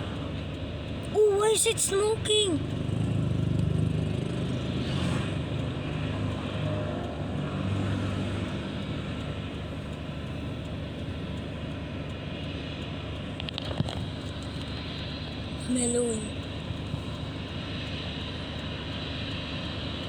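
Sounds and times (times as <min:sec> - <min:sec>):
jet engines rumbling and hissing: 0:00.0 - 0:20.0.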